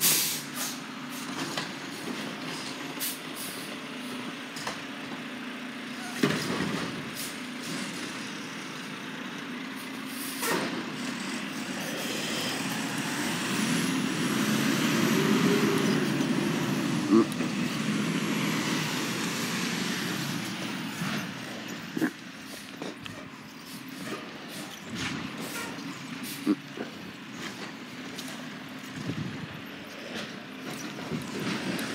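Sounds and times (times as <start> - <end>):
garbage truck engine hum: 0.0 - 31.9.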